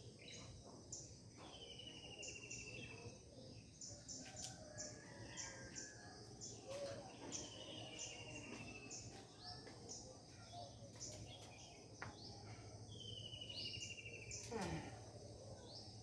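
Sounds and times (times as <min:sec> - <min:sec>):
birds singing: 0:00.0 - 0:16.0.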